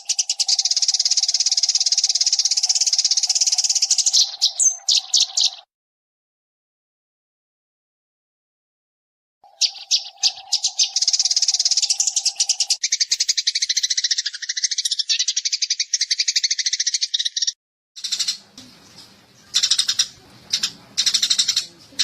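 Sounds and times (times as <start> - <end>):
sparrows chattering: 0.0 - 5.7, 9.4 - 22.0.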